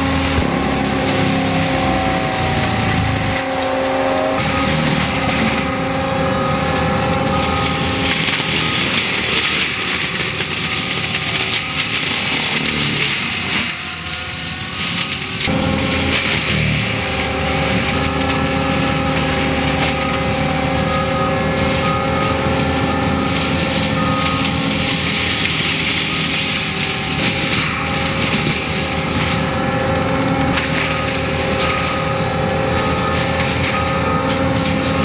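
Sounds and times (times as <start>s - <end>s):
engine and hydraulics whine: 0.0s - 35.0s
mulcher grinding wood: 0.0s - 35.0s.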